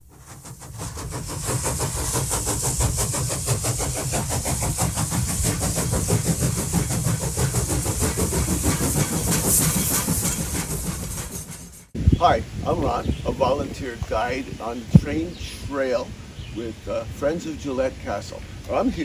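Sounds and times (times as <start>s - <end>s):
train running: 0.0s - 19.0s.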